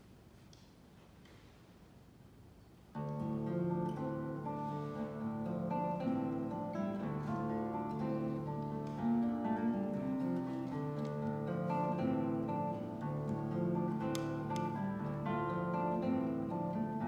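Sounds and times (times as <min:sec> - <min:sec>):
classical guitar duet: 0:02.4 - 0:17.0.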